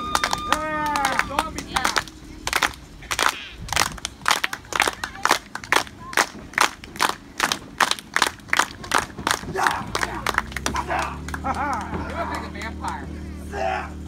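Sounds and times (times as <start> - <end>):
spectators clapping: 0.0 - 13.2.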